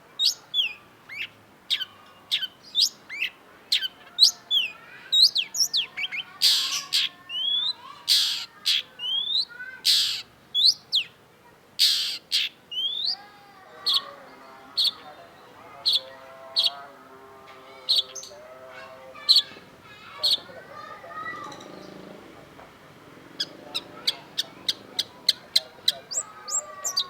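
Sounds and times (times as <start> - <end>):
harsh rasping bird call: 0.2 - 11.2, 11.8 - 27.0.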